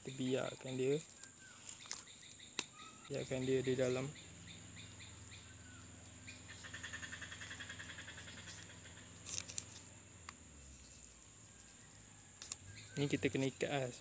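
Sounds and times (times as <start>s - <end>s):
high insect whine: 0.0s - 14.0s.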